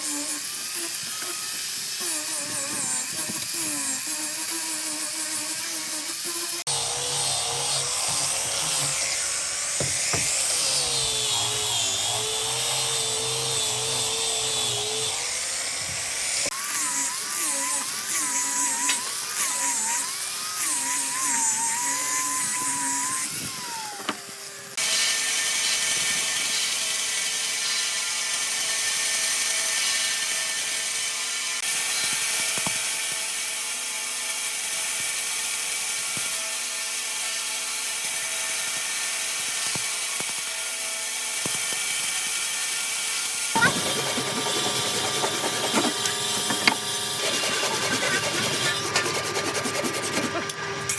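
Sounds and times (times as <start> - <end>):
electric power tool motor: 0.0 - 50.9.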